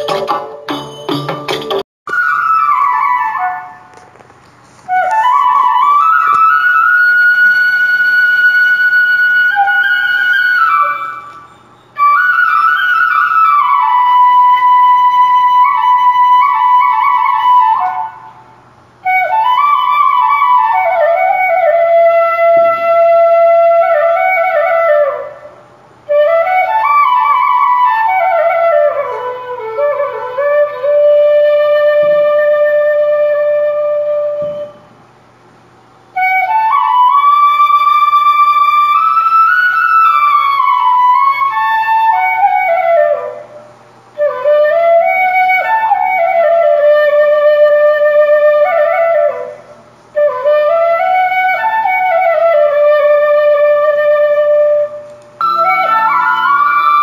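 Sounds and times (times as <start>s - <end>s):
solo flute melody: 2.1s - 35.0s, 36.1s - 57.0s.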